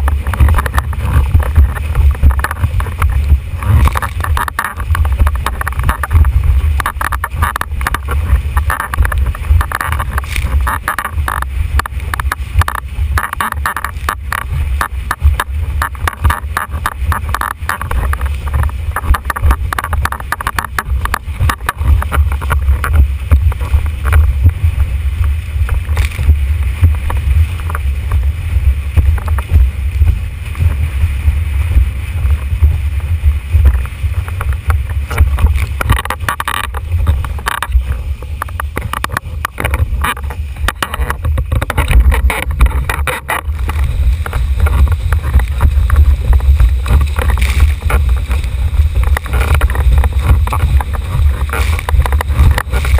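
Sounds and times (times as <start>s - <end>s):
rushing water: 0.0s - 52.9s
wind buffeting microphone: 0.0s - 52.9s.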